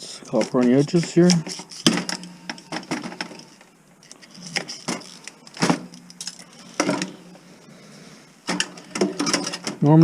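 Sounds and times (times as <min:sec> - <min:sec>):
metal parts clinking and rattling: 0:00.3 - 0:07.2, 0:08.5 - 0:09.8.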